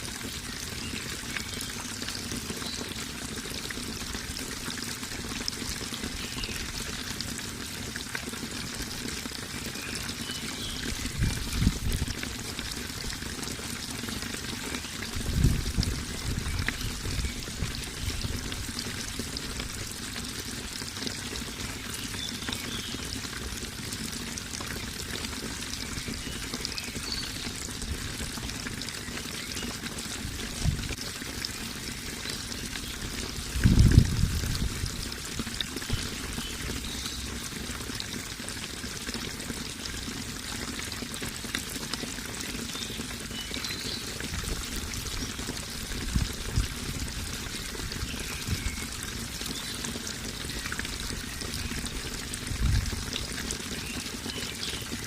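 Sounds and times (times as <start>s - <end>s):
running water flowing: 0.0s - 55.0s.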